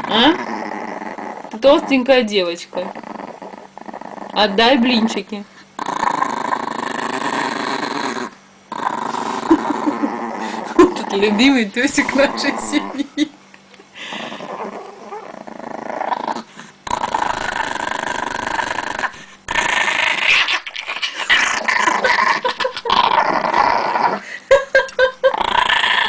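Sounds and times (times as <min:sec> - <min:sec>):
dog growling: 0:00.0 - 0:13.3, 0:14.0 - 0:24.4, 0:25.0 - 0:26.0.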